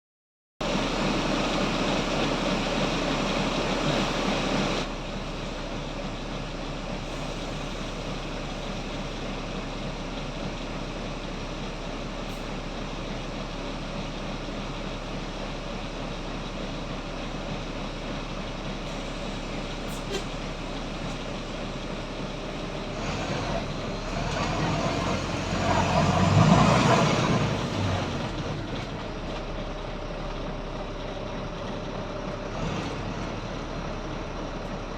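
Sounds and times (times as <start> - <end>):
bus diesel engine running: 0.6 - 34.9.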